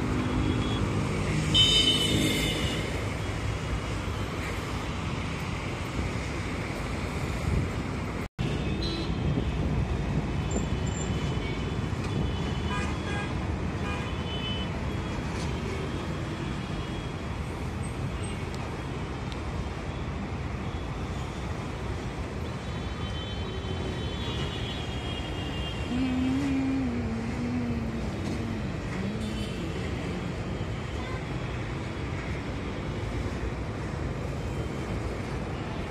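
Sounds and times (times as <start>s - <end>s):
city road traffic: 0.0s - 35.9s.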